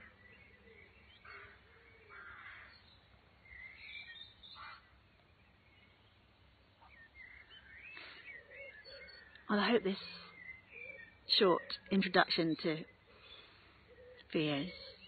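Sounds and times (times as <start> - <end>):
birds twittering: 0.0 - 15.0
faint birds calling: 0.0 - 15.0.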